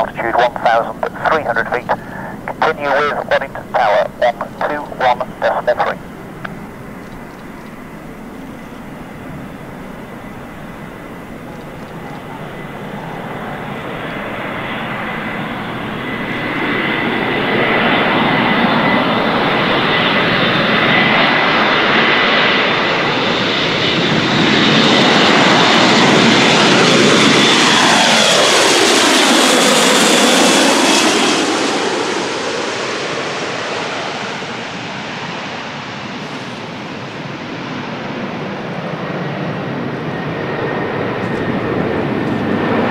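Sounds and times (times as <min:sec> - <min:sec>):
turboprop aircraft passing: 0:00.0 - 0:42.9.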